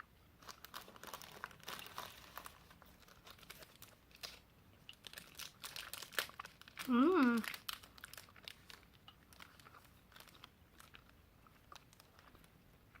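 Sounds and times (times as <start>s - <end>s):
plastic wrappers crinkling: 0.4s - 13.0s.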